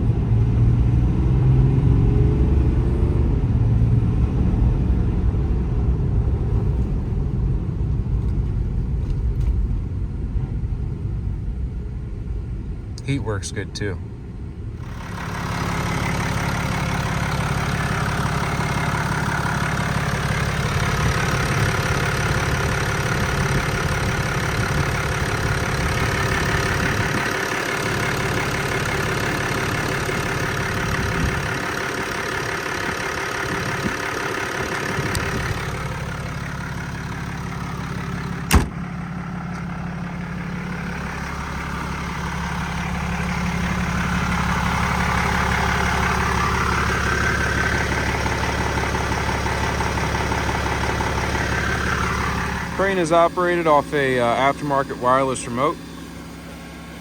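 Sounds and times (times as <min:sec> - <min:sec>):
diesel engine and road noise: 0:00.0 - 0:57.0.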